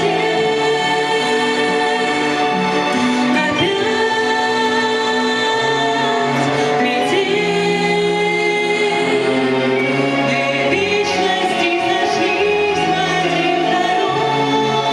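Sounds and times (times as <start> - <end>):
person singing: 0.0 - 14.9.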